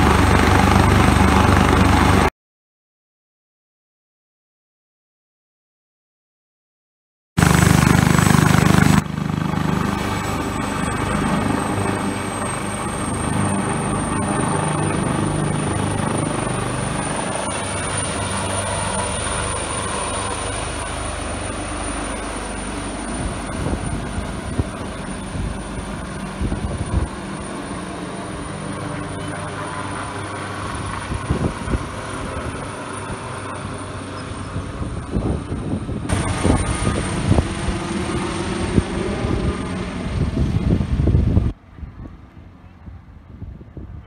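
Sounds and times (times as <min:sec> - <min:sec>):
helicopter rotor and turbine: 0:00.0 - 0:02.3, 0:07.4 - 0:44.0.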